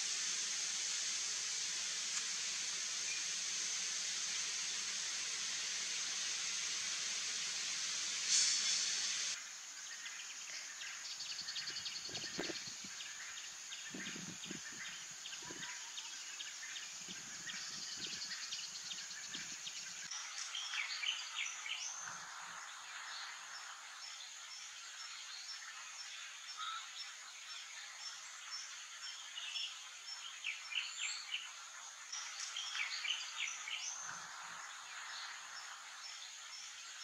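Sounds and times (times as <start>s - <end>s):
rapid insect or bird chirping: 0.0s - 37.0s
steady rushing hiss: 0.0s - 37.0s.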